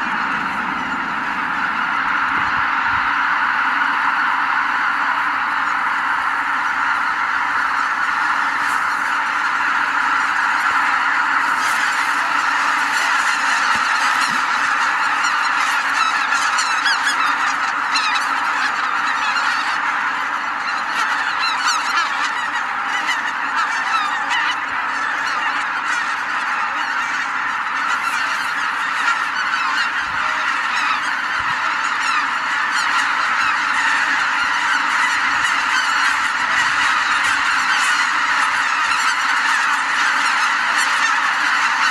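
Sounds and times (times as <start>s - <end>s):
flock of geese honking: 0.0s - 41.9s.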